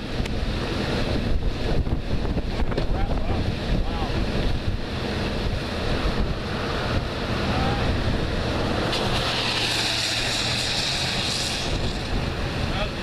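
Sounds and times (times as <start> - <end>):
tyres hissing on wet road: 0.0 - 13.0
wind buffeting microphone: 0.0 - 13.0.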